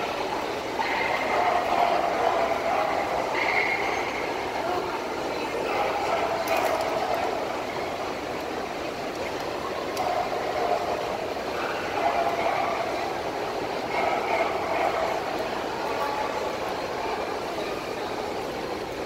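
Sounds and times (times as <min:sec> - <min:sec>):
murmur of voices: 0:00.0 - 0:19.0
steady background noise: 0:00.0 - 0:19.0.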